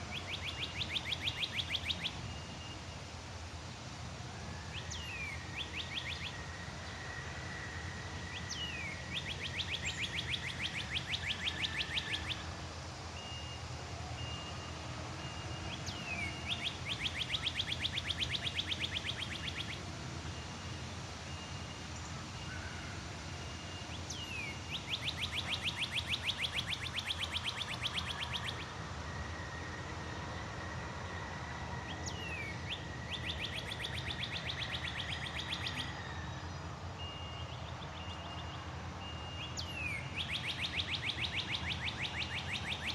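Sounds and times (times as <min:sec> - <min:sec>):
songbird whistle and trill: 0:00.0 - 0:03.1, 0:04.3 - 0:42.9
faint steady high tone: 0:00.0 - 0:42.9
low outdoor background noise: 0:00.0 - 0:42.9.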